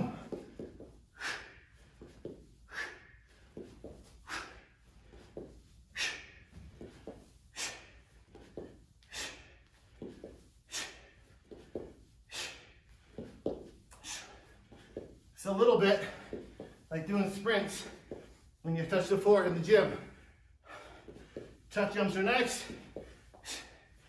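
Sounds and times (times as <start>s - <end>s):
soft footfalls on gym floor: 0.0s - 23.9s.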